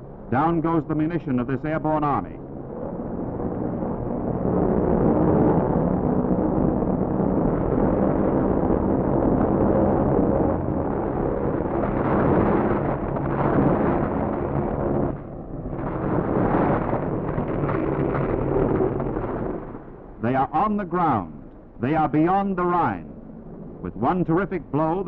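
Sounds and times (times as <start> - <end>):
loud steady rumbling din: 0.0 - 25.0.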